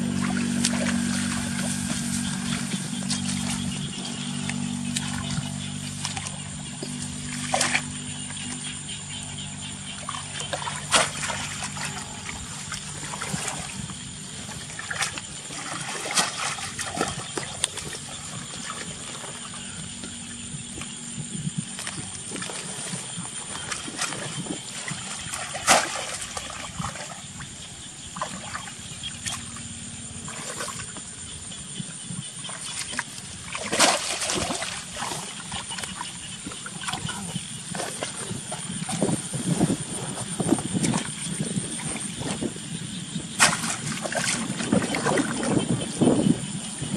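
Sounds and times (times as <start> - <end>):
water splashing and sloshing: 0.0 - 46.9.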